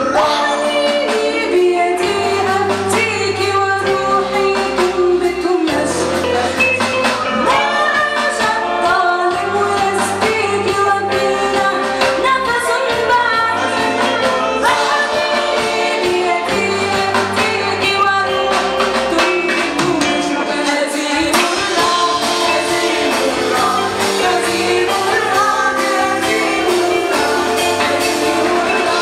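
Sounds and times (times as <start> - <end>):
bass guitar: 0.0 - 29.0
drum kit: 0.0 - 29.0
electric guitar: 0.0 - 29.0
woman singing lead: 0.0 - 29.0.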